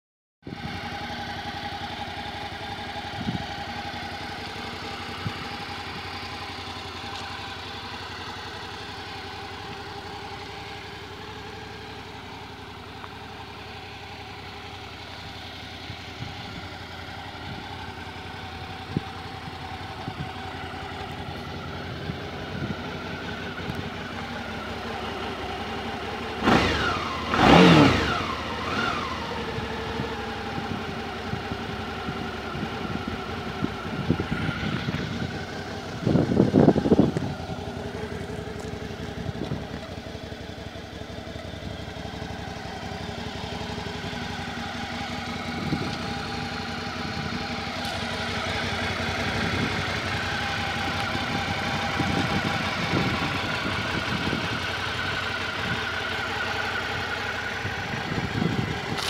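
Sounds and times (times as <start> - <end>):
motorcycle engine idling and revving: 0.4 - 59.0.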